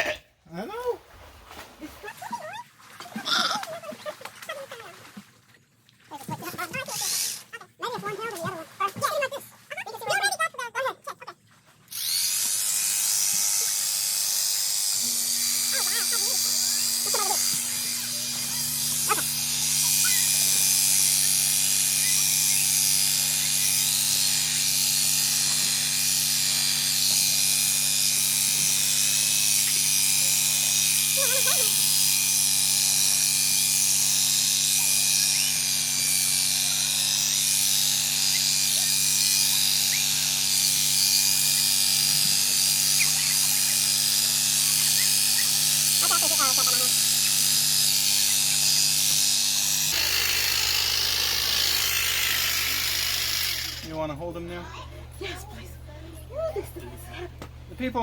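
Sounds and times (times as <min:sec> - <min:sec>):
electric sheep-shearing clippers: 0:06.5 - 0:07.5, 0:11.9 - 0:58.0.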